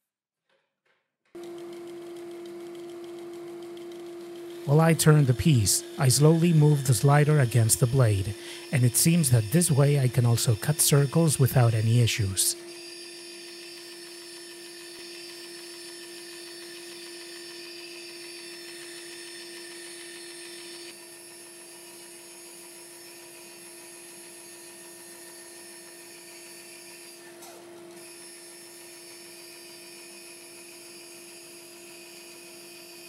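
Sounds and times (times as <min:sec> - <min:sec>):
band saw cutting with whine: 0:01.4 - 0:33.0.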